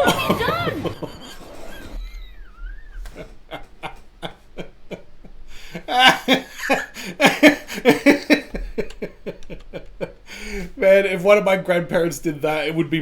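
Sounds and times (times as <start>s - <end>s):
people laughing hard: 0.0s - 10.7s.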